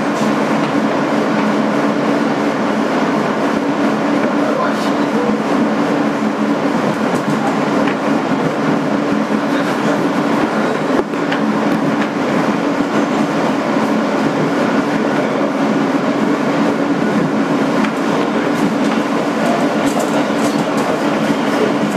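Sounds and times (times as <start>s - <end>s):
subway wheels on rail: 0.0s - 21.9s.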